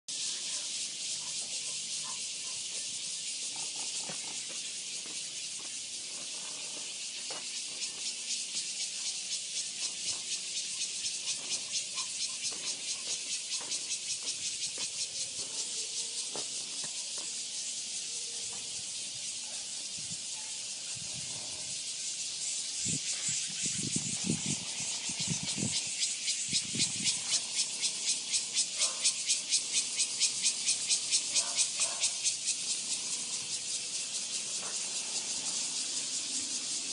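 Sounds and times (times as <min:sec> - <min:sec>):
cicadas buzzing: 0:00.1 - 0:36.9.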